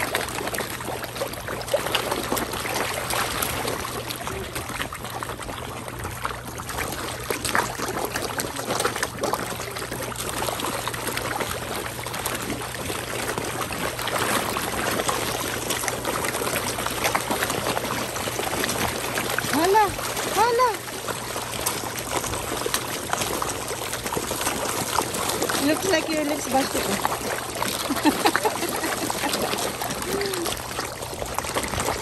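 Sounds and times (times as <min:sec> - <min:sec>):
fish splashing and gulping: 0:00.0 - 0:32.0.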